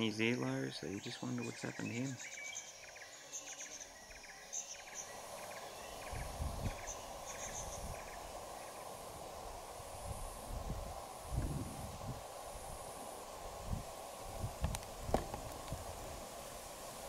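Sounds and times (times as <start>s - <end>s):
insects chirping: 0.0s - 17.0s
steady hiss: 0.0s - 17.0s.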